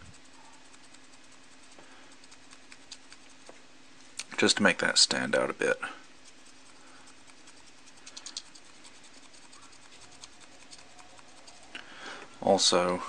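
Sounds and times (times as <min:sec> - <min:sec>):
paint brush scratching on plastic: 0:00.0 - 0:03.6, 0:04.4 - 0:11.8.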